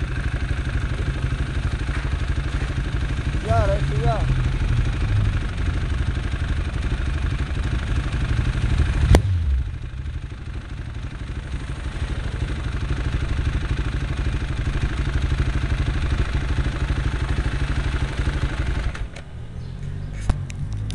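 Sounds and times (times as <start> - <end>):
motorcycle engine idling: 0.0 - 20.9.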